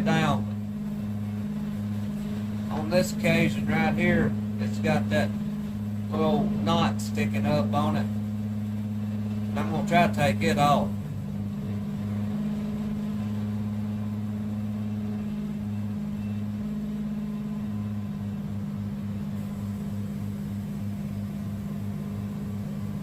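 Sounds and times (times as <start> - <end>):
band sawmill engine hum: 0.0 - 23.0.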